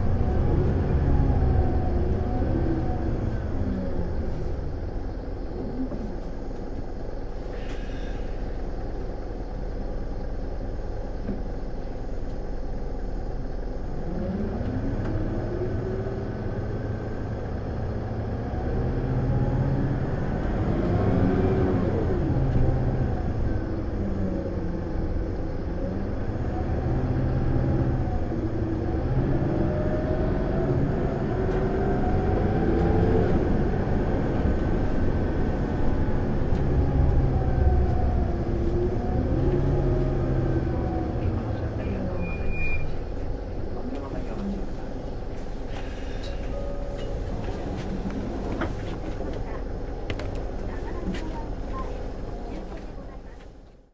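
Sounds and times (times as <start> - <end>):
bus diesel engine pulling hard: 0.0 - 53.9.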